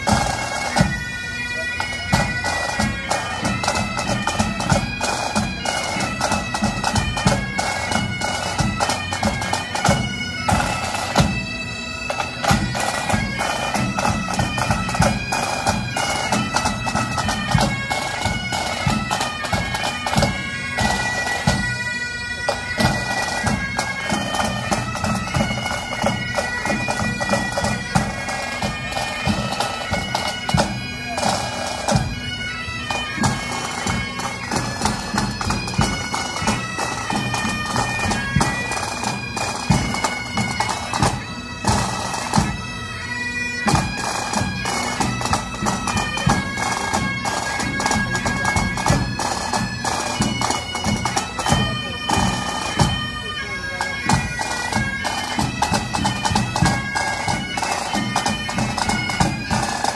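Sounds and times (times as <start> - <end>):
bagpipes playing melody: 0.0 - 59.9.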